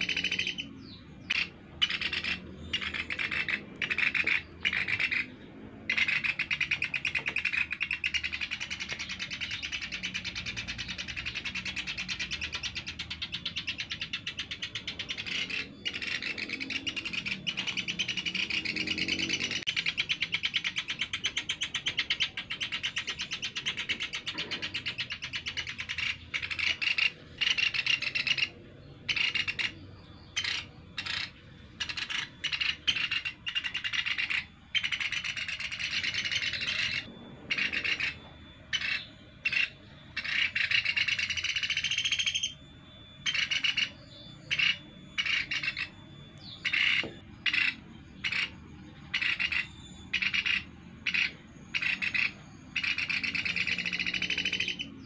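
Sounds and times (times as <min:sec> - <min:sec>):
woodpeckers raspy chattering: 0:00.0 - 0:55.0.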